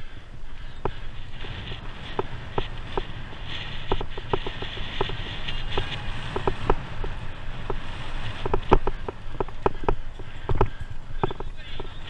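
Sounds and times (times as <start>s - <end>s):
low rumble of tyres and wind: 0.0s - 12.0s
bike frame and chain rattling: 0.5s - 12.0s.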